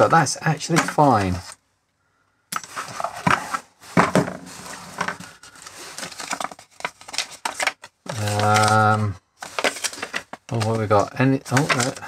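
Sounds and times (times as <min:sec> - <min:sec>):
paper and cardboard rustling: 0:00.0 - 0:01.6, 0:02.6 - 0:12.0.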